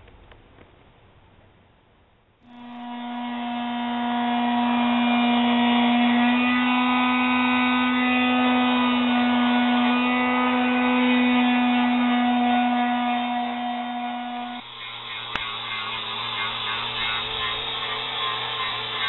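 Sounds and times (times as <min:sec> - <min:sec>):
low synthesizer drone: 0:02.4 - 0:19.0.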